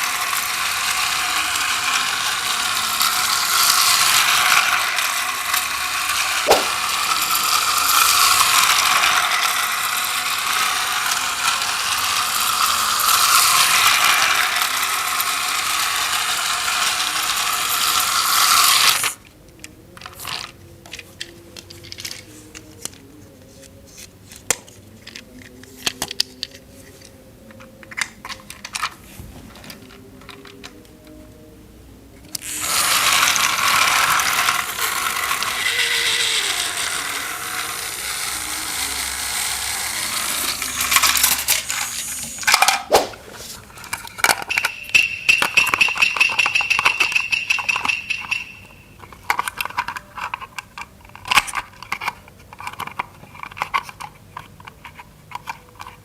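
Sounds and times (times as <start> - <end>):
toy train motor whirring: 0.0 - 19.2, 20.0 - 29.0, 32.3 - 56.0
plastic toy parts clicking: 0.0 - 29.0, 29.6 - 31.2, 32.2 - 42.9, 43.6 - 56.0.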